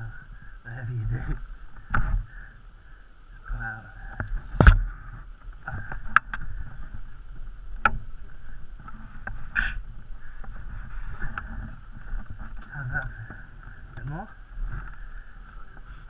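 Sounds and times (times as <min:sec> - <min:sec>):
wind on microphone: 0:00.0 - 0:02.4, 0:03.5 - 0:16.0.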